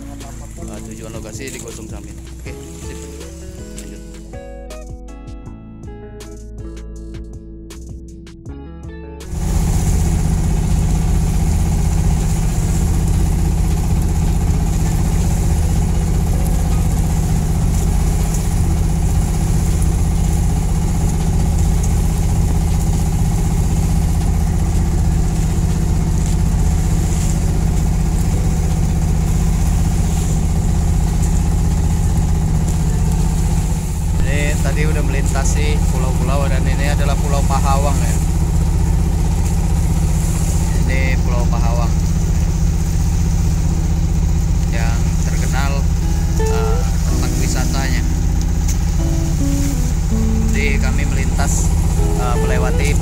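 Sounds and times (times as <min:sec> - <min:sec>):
boat engine running: 0:00.0 - 0:04.5, 0:09.2 - 0:53.0.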